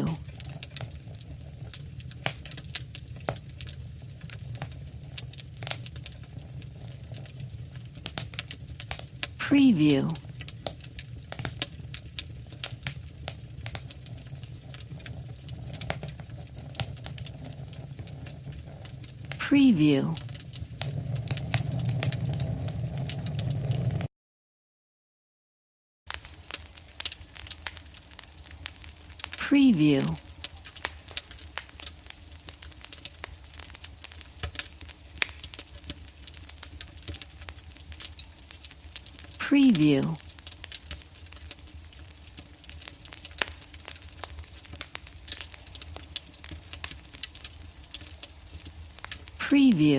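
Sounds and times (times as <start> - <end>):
fire burning with crackles: 0.0 - 24.1, 26.1 - 49.9
low rumble of flame: 0.0 - 24.1, 26.1 - 29.4, 30.1 - 39.4, 40.2 - 49.9.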